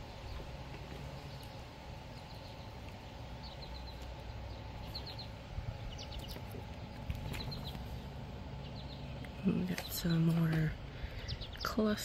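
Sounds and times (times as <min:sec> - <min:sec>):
outdoor background noise: 0:00.0 - 0:12.0
small bird chirping: 0:00.1 - 0:12.0.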